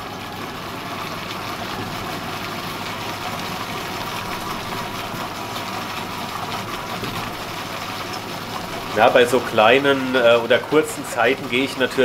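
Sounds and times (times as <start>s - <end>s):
food processor motor running: 0.0s - 12.0s.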